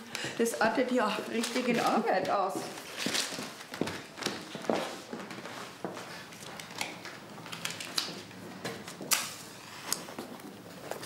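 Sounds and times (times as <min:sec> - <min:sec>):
objects being handled: 0:01.0 - 0:11.0.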